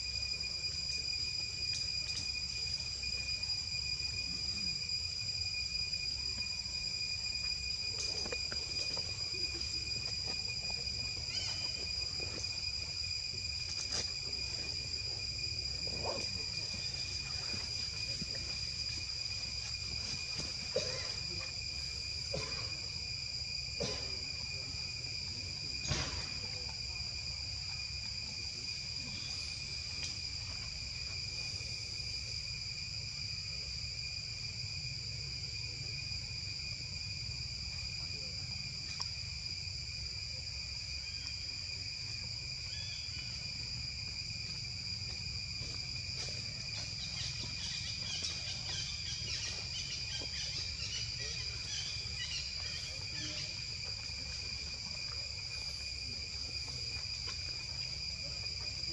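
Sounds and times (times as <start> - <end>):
insect drone: 0.0 - 58.9.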